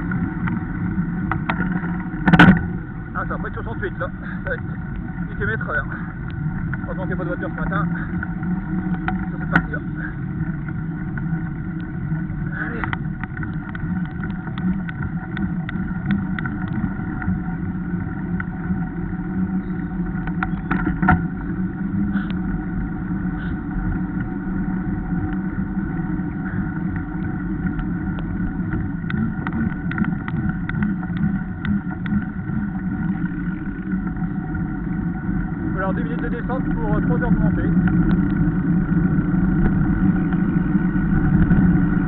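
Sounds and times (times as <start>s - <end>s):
bike rattling over bumps: 0.0s - 42.0s.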